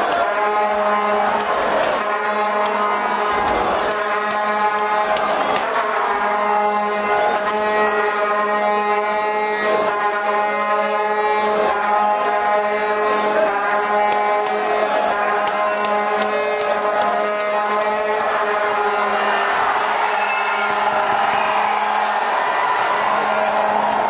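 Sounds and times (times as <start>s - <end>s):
crowd noise: 0.0s - 24.0s.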